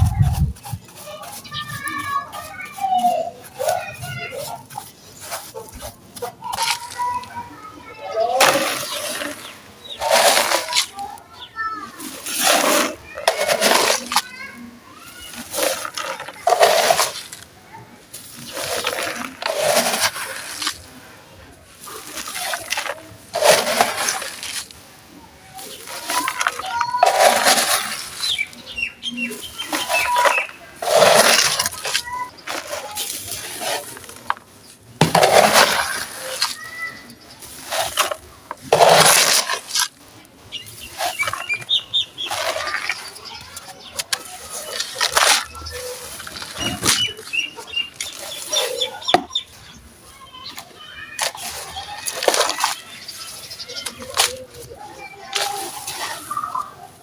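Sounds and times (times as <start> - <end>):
sand cement crumbled by hand: 0.0 - 57.0.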